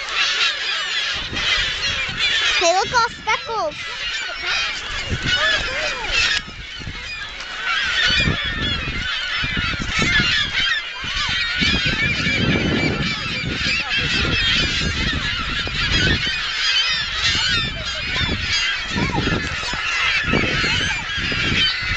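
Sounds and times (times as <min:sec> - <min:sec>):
gulls squawking and crying: 0:00.0 - 0:21.9.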